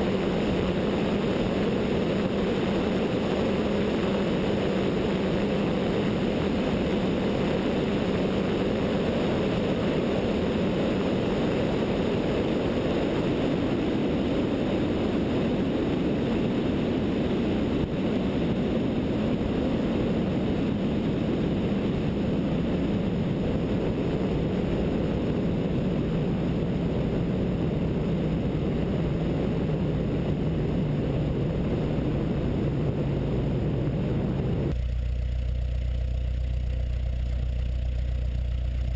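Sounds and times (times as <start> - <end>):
wind rush: 0.0 - 34.8
light aircraft engine droning: 0.0 - 38.9.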